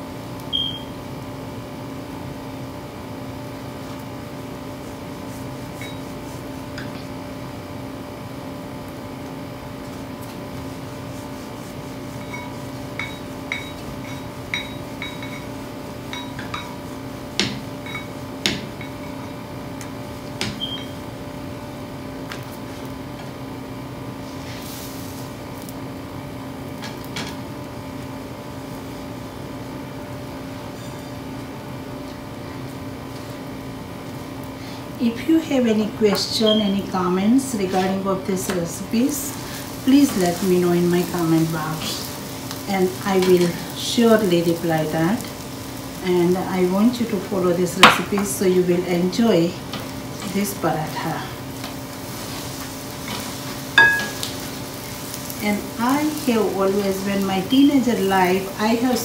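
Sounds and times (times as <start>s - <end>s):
kitchen appliance hum: 0.0s - 59.0s.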